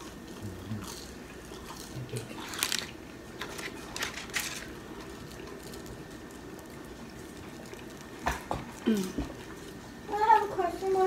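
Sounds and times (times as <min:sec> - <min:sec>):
person chewing french fries: 0:00.0 - 0:10.0.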